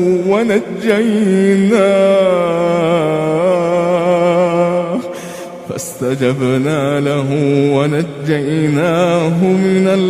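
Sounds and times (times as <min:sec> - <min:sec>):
man chanting recitation: 0:00.0 - 0:10.0.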